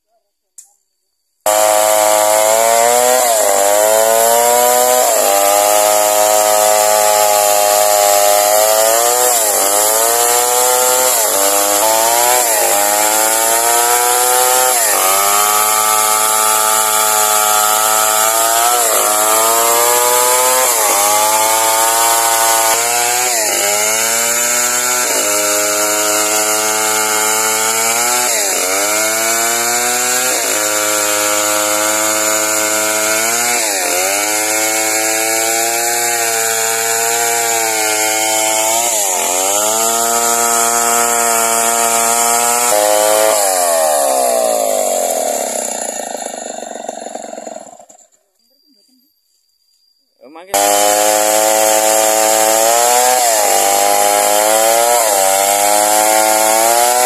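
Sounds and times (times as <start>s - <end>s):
chainsaw cutting wood: 1.4s - 48.2s, 50.4s - 57.0s.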